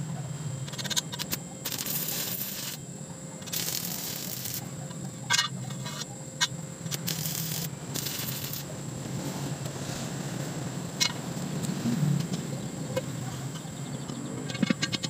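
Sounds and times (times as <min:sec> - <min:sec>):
arc welder crackling and hissing: 0:00.0 - 0:15.0
steady low hum: 0:00.0 - 0:15.0.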